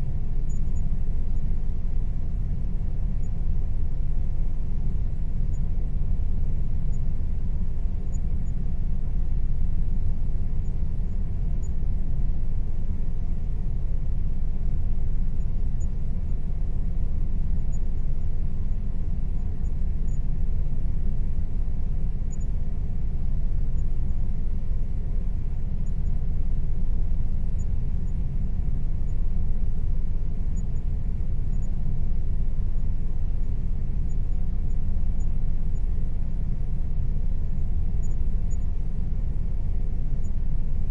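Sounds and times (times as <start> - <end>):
faint steady tone: 0.0 - 40.9.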